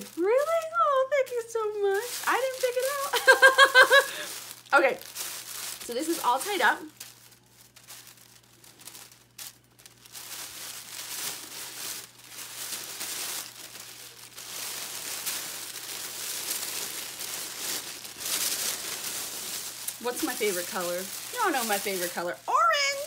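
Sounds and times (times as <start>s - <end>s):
wrapping crinkling and rustling: 0.0s - 23.0s.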